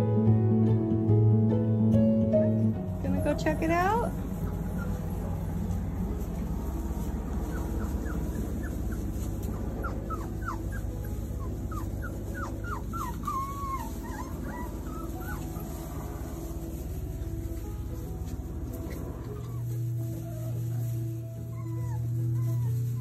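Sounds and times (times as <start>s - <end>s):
puppies whimpering: 3.0s - 23.0s
puppy wavering whine: 3.2s - 17.3s, 18.7s - 23.0s.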